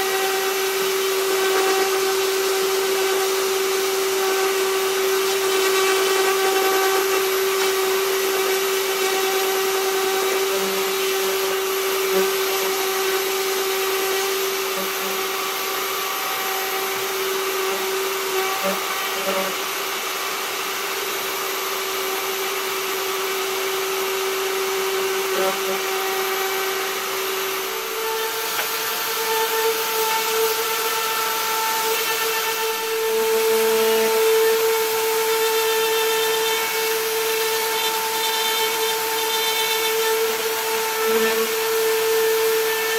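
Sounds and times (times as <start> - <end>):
orbital sander on wood: 0.0 - 42.9.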